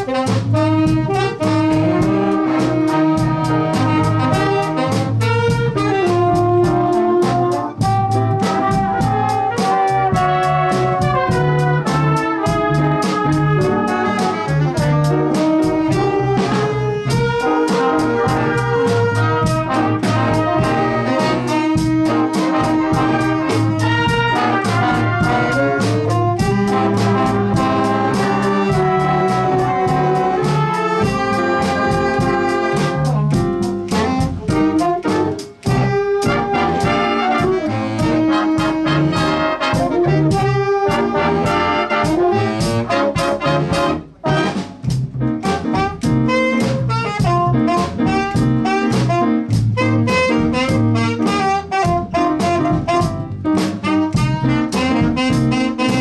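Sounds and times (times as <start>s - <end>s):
horns playing melody: 0.0s - 56.0s
jazz big band playing: 0.0s - 56.0s
moving bass line: 0.0s - 56.0s
steady drum beat: 0.0s - 56.0s.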